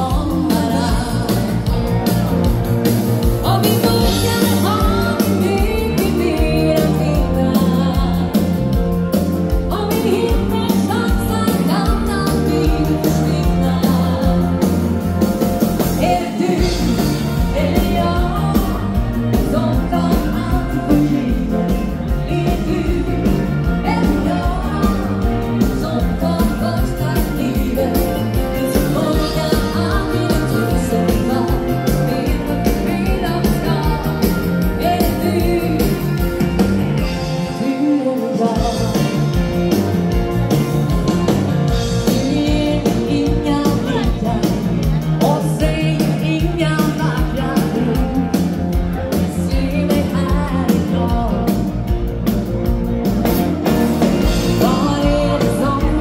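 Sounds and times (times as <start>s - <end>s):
dance band playing: 0.0s - 56.0s
woman singing lead: 0.0s - 56.0s.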